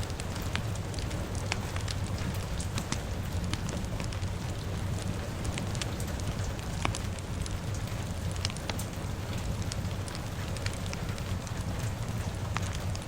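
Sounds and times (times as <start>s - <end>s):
fire crackling: 0.0s - 13.0s
steady rain: 0.0s - 13.0s.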